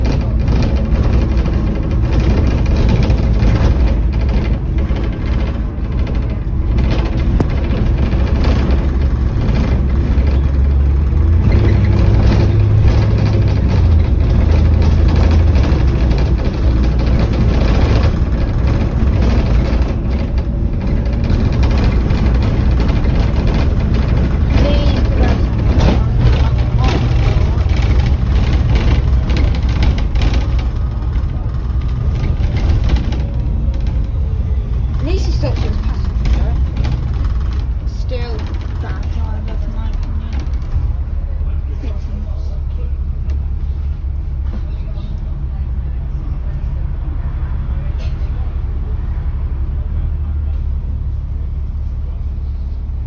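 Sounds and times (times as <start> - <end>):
bus engine droning: 0.0 - 53.0
road noise: 0.0 - 53.0.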